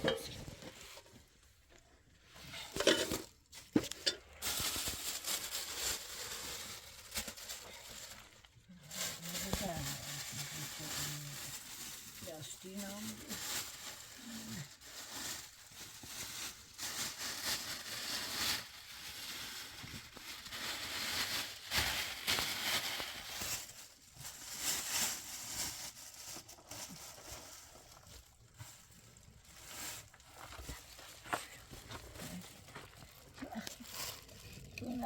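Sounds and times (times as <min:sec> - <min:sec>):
rustling and crunching: 0:00.0 - 0:35.0.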